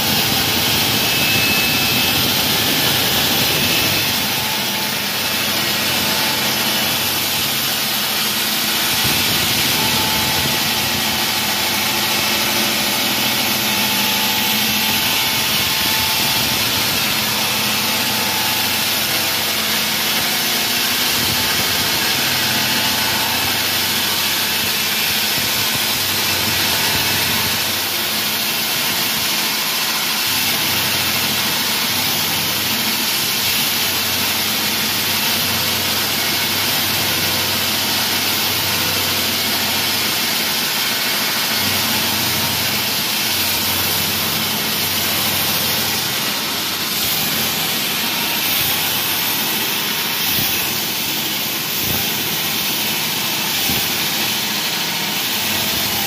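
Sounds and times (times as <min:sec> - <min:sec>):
wall saw cutting: 0:00.0 - 0:56.0.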